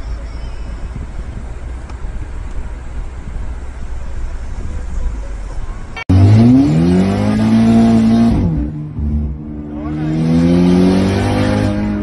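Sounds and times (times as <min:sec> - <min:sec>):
car engine accelerating: 0:00.9 - 0:12.0.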